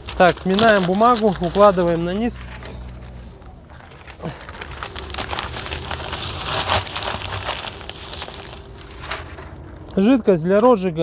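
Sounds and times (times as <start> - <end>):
paper being crumpled: 0.0 - 10.2.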